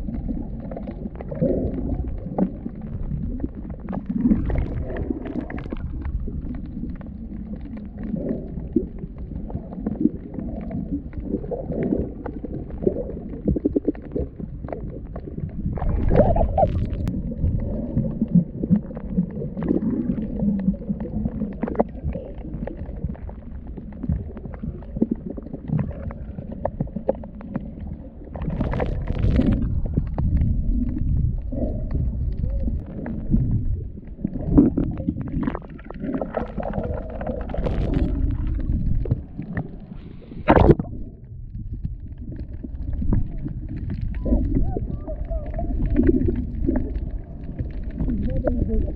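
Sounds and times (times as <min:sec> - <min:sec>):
underwater rumbling and gurgling: 0:00.0 - 0:48.9.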